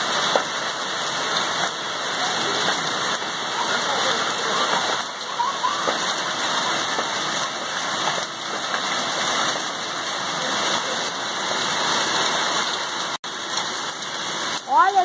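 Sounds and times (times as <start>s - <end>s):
hail and heavy rain pelting: 0.0s - 15.0s
hailstones ticking on leaves: 0.0s - 15.0s.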